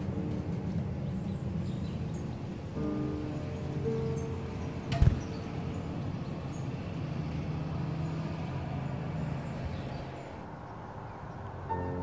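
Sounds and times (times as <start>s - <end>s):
low mechanical rumble: 0.0s - 10.4s.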